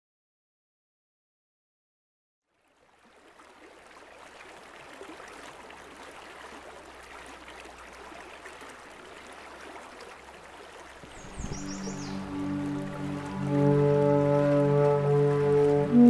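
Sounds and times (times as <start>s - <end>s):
creek flowing: 2.4s - 16.0s.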